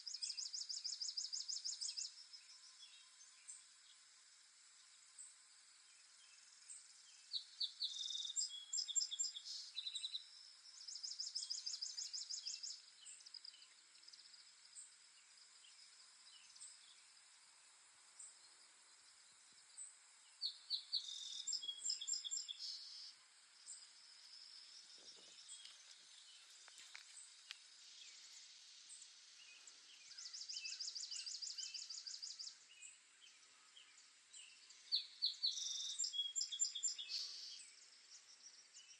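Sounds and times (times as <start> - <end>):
songbird chirping and trilling: 0.0 - 4.0, 5.2 - 17.2, 18.2 - 38.9
faint background hiss: 0.0 - 38.9.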